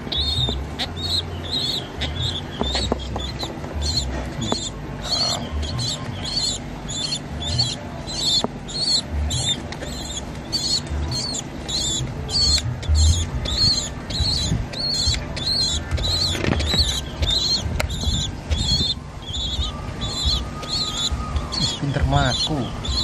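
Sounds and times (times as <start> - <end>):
pigeon squabs peeping: 0.0 - 23.0.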